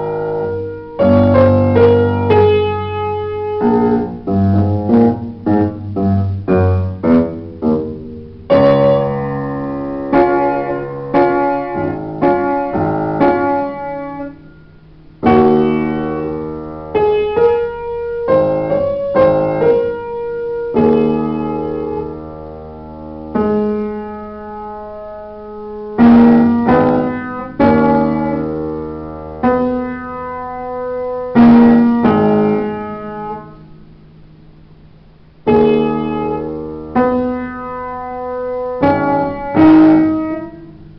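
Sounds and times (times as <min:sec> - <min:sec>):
solo piano melody: 0:00.0 - 0:40.9.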